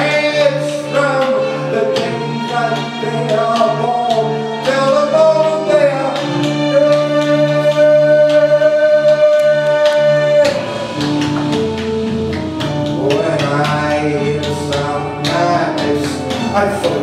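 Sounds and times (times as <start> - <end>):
electronic music with beat: 0.0 - 17.0
person singing: 0.0 - 17.0.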